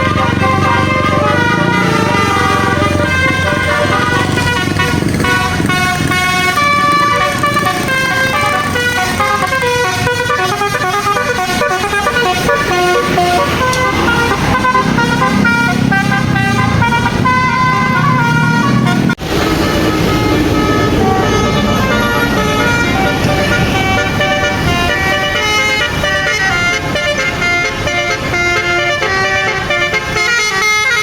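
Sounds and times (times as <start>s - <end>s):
musical bus horn melody: 0.0s - 31.0s.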